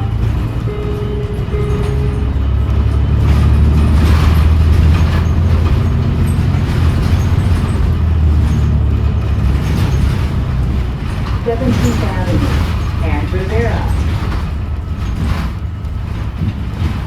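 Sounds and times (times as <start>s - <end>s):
bus drivetrain low drone: 0.0s - 17.0s
rattles: 0.0s - 17.0s
road noise: 0.0s - 17.0s.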